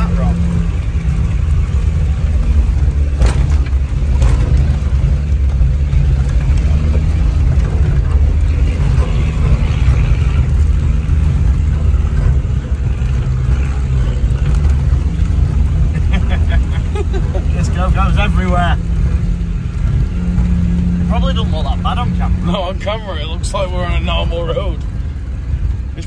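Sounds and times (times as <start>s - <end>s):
engine running at low revs: 0.0s - 26.0s.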